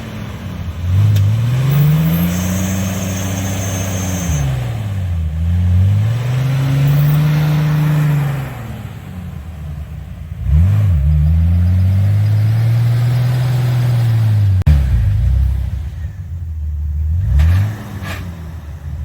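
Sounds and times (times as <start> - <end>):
vehicle engine revving hard: 0.0 - 9.3, 10.4 - 16.1, 17.1 - 19.0.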